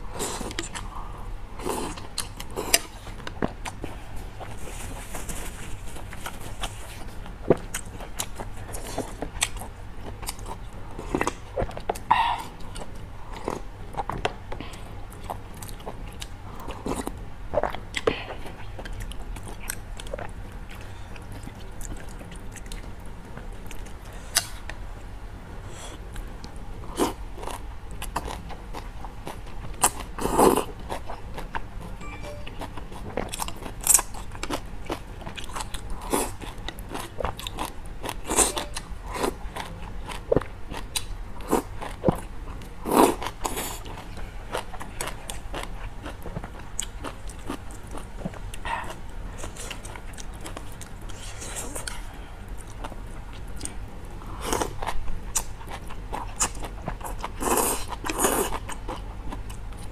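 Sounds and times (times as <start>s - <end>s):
chewing with mouth full: 0.1s - 24.8s, 25.9s - 59.9s.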